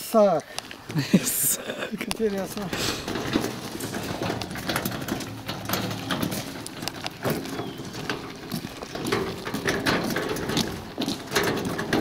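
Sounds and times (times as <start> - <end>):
footsteps on gravel: 0.0 - 12.0
wheelbarrow wheel crunching on gravel: 0.0 - 12.0.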